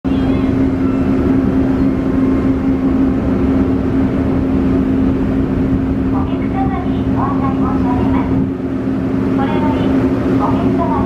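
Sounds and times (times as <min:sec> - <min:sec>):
ferry engines droning: 0:00.0 - 0:11.0.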